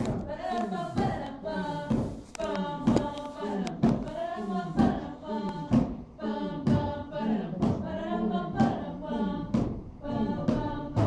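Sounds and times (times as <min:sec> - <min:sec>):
group of voices singing: 0:00.0 - 0:11.0
sharp thump keeping beat: 0:00.0 - 0:11.0.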